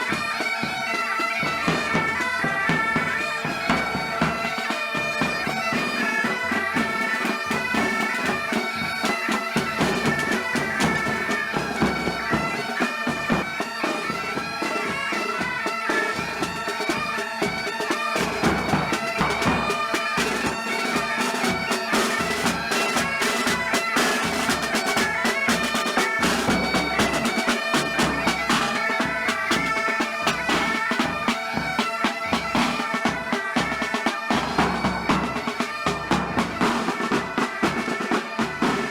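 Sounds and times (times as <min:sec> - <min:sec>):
bagpipes playing melody: 0:00.0 - 0:38.9
drum beat: 0:00.0 - 0:38.9.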